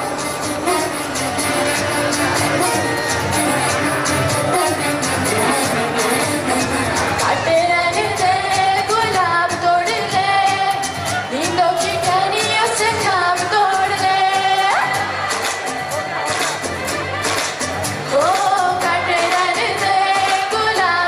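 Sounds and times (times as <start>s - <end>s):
woman singing into a microphone: 0.0s - 15.2s, 18.1s - 21.0s
music with a steady beat: 0.0s - 21.0s.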